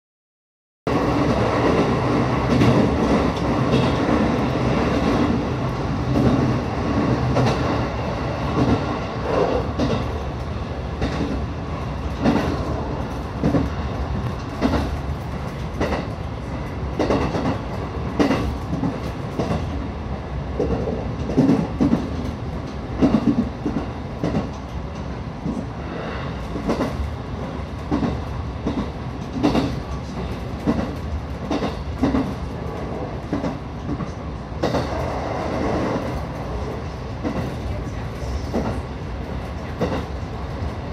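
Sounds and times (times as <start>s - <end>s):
train rumble from inside: 0.9s - 40.9s.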